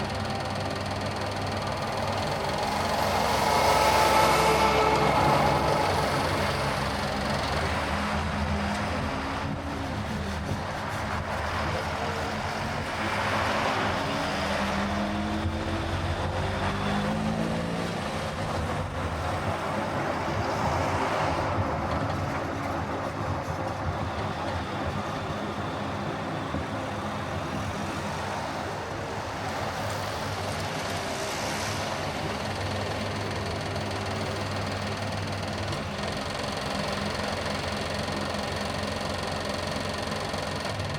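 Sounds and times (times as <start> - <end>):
road and engine noise: 0.0 - 40.9
traffic passing: 0.0 - 40.9.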